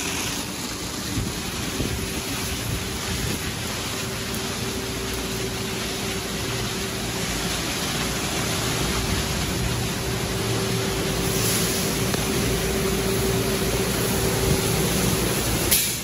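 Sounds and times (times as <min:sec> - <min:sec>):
car wash spray and air rushing: 0:00.0 - 0:16.0.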